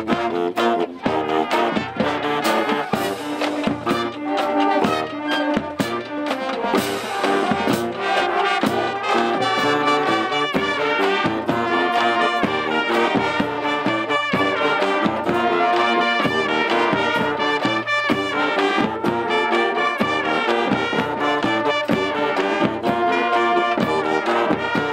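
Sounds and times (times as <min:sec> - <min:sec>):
brass and woodwinds playing tune: 0:00.0 - 0:24.9
drums and crash cymbals: 0:00.0 - 0:24.9.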